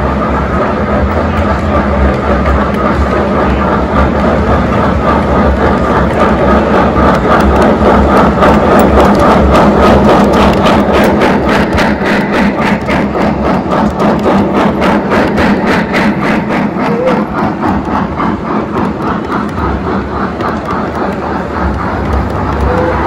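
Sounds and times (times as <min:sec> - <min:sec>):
model steam train chuffing: 0:00.0 - 0:23.0
wheels rumbling on rails: 0:00.0 - 0:23.0.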